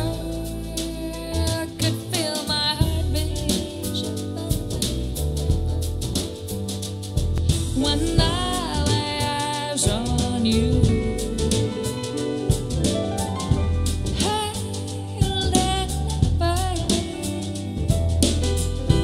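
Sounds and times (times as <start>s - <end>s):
soul-jazz song with vocals: 0.0s - 19.0s.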